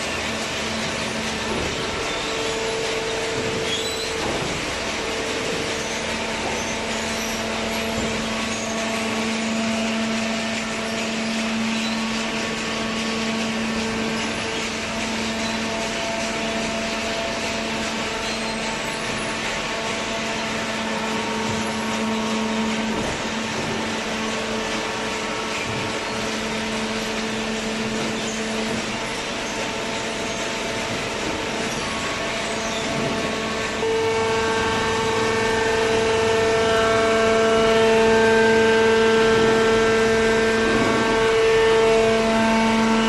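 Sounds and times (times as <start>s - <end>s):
hydraulic baler humming: 0.0s - 43.0s.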